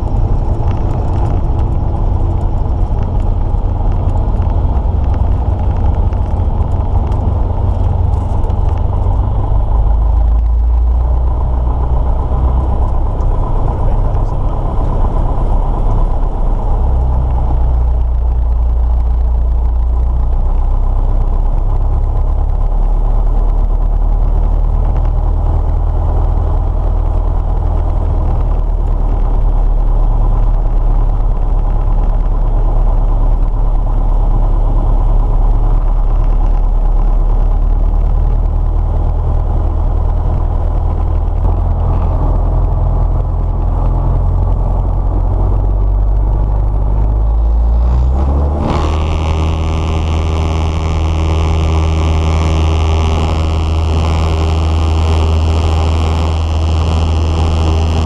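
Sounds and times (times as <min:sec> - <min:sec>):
propeller engine drone: 0:00.0 - 0:58.0.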